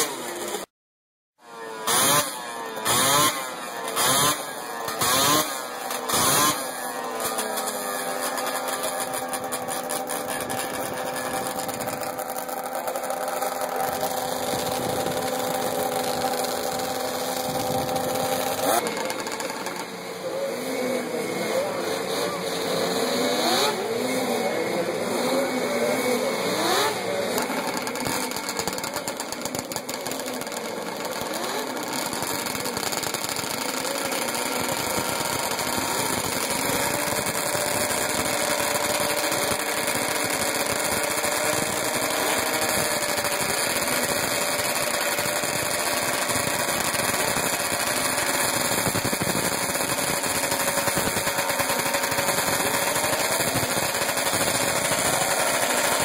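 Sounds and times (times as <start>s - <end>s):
snowmobile engines idling: 1.9s - 56.0s.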